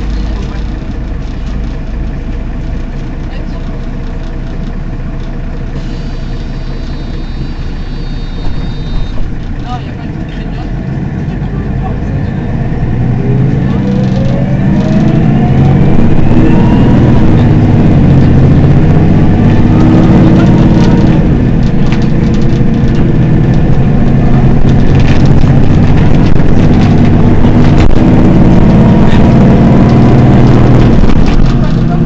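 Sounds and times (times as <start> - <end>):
bus engine idling: 0.0 - 32.0.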